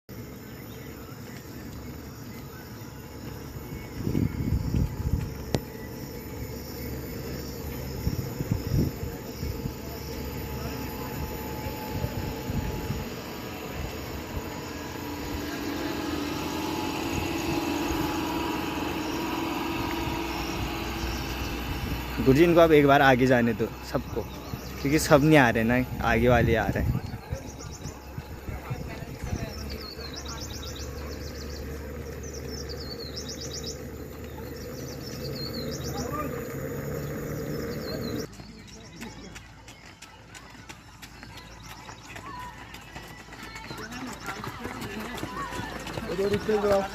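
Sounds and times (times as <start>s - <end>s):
songbird singing: 0.1s - 46.9s
vehicle engine humming: 0.1s - 46.9s
road noise: 2.8s - 46.9s.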